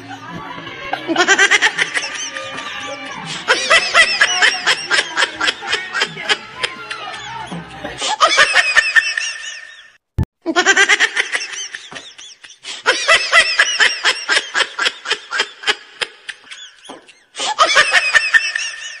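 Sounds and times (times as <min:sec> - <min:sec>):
laugh track giggling: 0:00.0 - 0:19.0.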